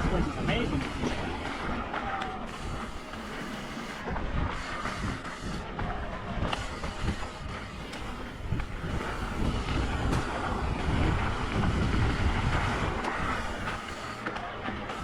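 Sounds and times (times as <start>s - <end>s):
wind buffeting microphone: 0.0s - 3.4s, 4.0s - 15.0s
tyres rumbling on dirt: 0.0s - 15.0s.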